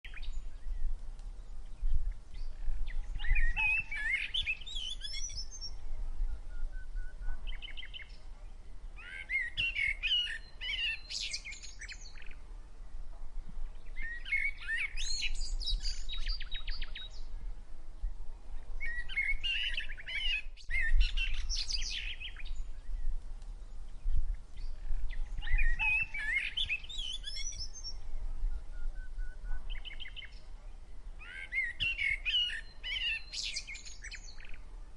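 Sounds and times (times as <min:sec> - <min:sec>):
songbird chirps and trills: 0:00.0 - 0:12.8, 0:13.5 - 0:34.7.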